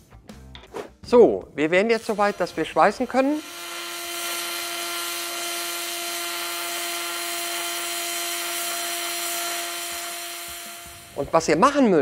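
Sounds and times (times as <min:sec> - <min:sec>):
welding arc hissing and buzzing: 0:01.6 - 0:12.0.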